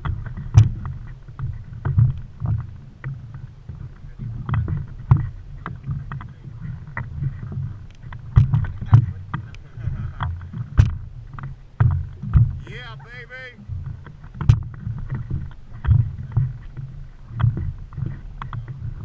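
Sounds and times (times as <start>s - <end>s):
sharp knocks and clicks: 0.0s - 9.6s, 10.2s - 12.6s, 13.7s - 18.8s
water slapping against boat hull: 0.0s - 19.0s.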